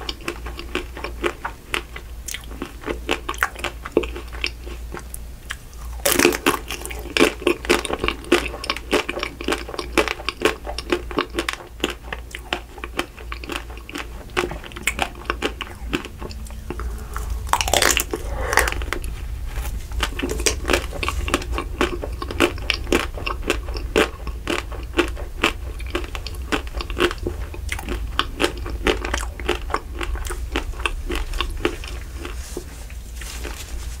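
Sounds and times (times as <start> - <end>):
chewing: 0.0 - 34.0.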